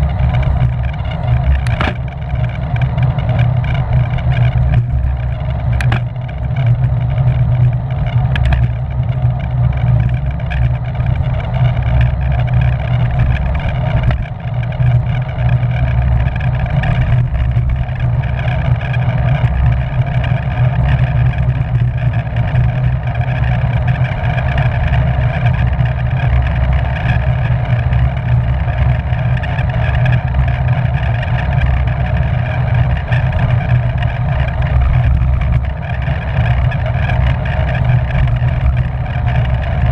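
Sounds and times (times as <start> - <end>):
rolling hum of bicycle: 0.0 - 39.9.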